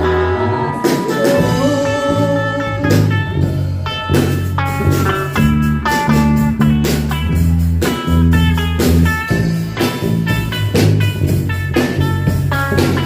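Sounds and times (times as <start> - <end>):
bass line: 0.0 - 13.0
drum kit with cymbals: 0.0 - 13.0
guitar: 0.0 - 13.0.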